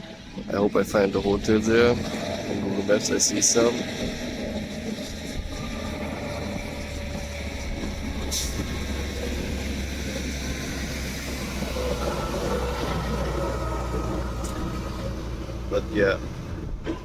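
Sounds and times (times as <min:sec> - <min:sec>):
road and wind noise: 0:00.0 - 0:17.0
vehicle engine drone: 0:00.0 - 0:17.0.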